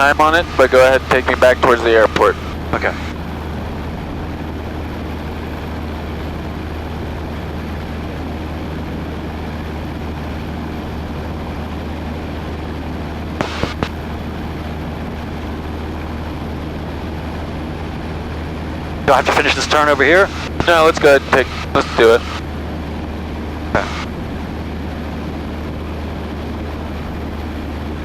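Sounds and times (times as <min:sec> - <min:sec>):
aircraft engine and propeller drone: 0:00.0 - 0:28.0.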